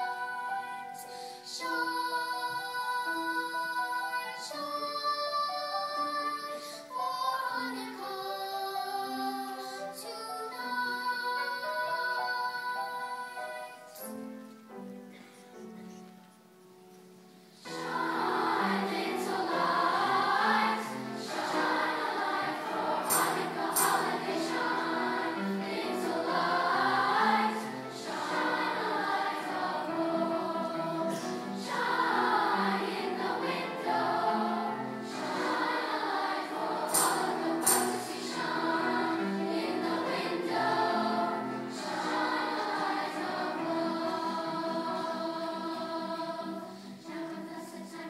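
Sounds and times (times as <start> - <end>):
choir singing: 0.0 - 14.1, 17.6 - 48.0.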